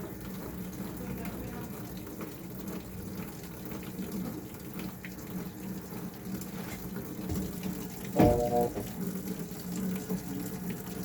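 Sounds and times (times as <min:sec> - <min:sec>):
washing machine water running: 0:00.0 - 0:11.0.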